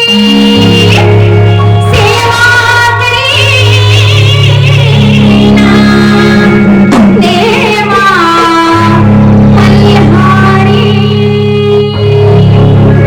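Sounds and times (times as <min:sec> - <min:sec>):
electric organ chords: 0:00.0 - 0:13.0
woman singing devotional song: 0:00.0 - 0:13.0.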